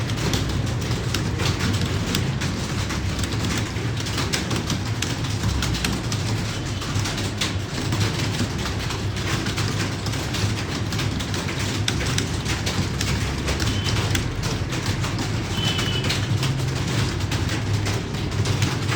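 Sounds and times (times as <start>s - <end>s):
keyboards typing: 0.0s - 18.9s.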